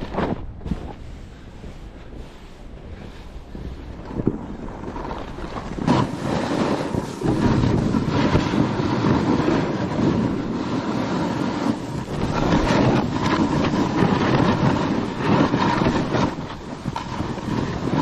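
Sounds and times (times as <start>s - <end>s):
skis scraping snow: 0.0s - 18.0s
wind rushing over microphone: 0.0s - 18.0s.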